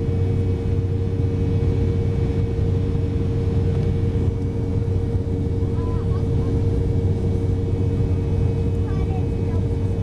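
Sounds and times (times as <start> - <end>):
airliner cabin jet engine drone: 0.0 - 10.0.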